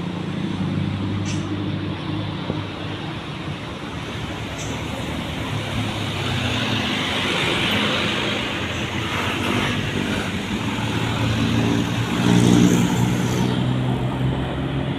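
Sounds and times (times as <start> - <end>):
road noise: 0.0 - 14.9
vehicle engine humming: 0.0 - 14.9.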